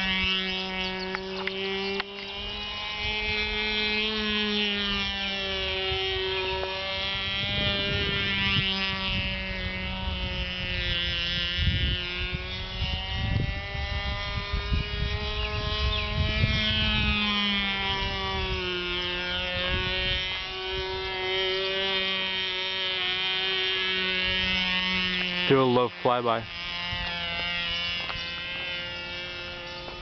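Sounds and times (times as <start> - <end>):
wind rumbling on microphone: 0.0 - 25.5, 26.5 - 30.0
model airplane engine whine: 0.0 - 30.0.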